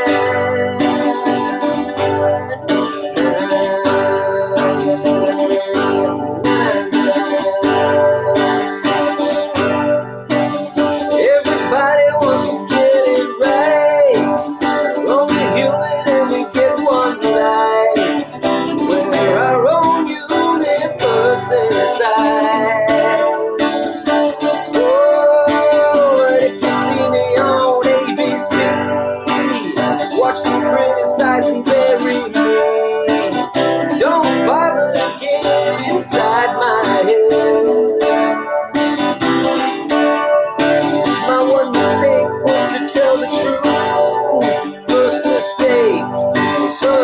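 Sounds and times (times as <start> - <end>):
man singing: 0.0 - 38.6, 39.5 - 47.0
acoustic guitar strumming: 0.0 - 47.0.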